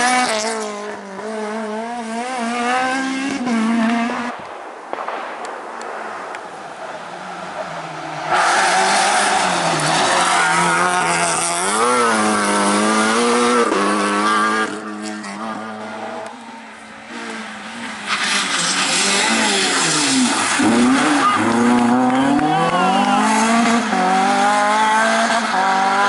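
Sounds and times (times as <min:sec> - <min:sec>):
rally car engine passing at speed: 0:00.0 - 0:04.3, 0:06.5 - 0:26.0.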